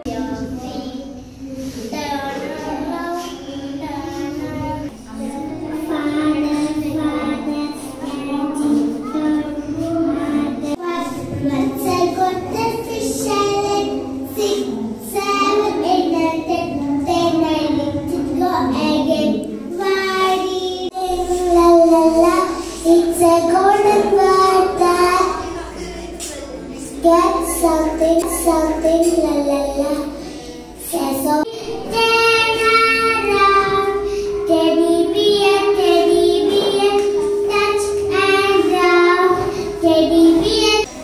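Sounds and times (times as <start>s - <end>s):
girls singing unaccompanied: 0.0s - 41.0s.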